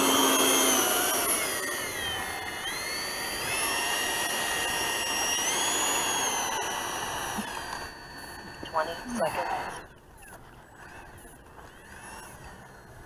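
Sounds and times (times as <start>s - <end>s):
electric ducted fan whining: 0.0s - 13.0s.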